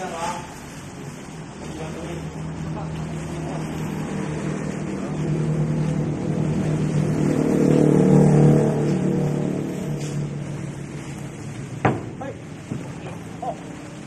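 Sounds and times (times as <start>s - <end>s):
vehicle engine running: 1.4s - 14.0s.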